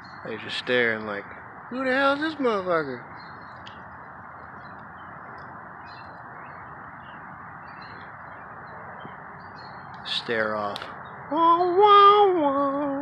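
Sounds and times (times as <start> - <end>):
small birds chirping: 0.0 - 12.9
steady rushing background noise: 0.0 - 13.0.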